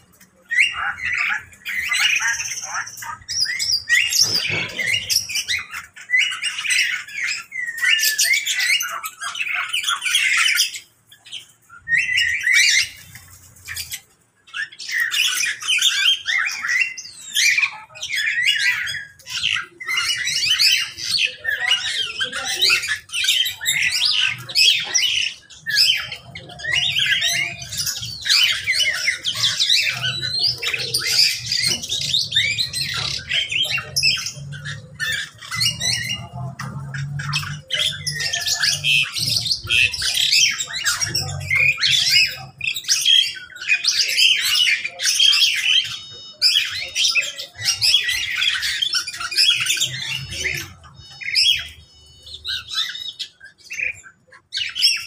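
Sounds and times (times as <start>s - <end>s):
birds squawking and chirping: 0.0s - 55.0s.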